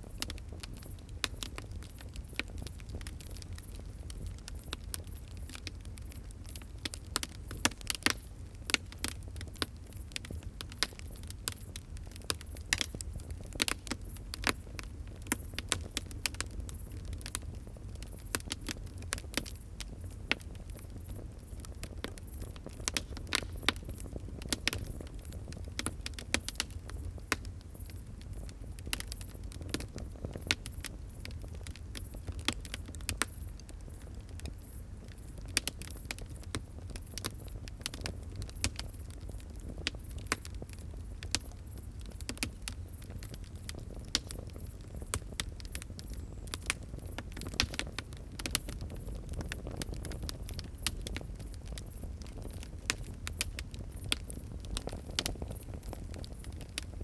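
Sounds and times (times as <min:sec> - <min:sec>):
low rumble of flames: 0:00.0 - 0:57.0
wood fire crackling: 0:00.0 - 0:57.0
sharp pops and snaps: 0:00.1 - 0:57.0.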